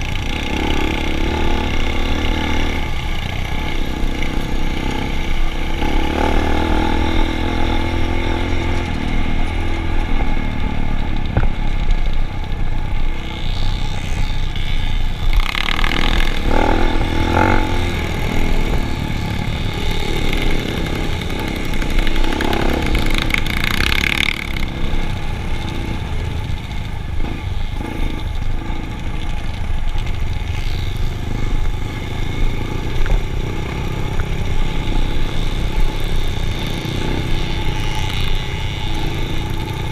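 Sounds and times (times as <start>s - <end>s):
vehicle engines running: 0.0s - 39.9s.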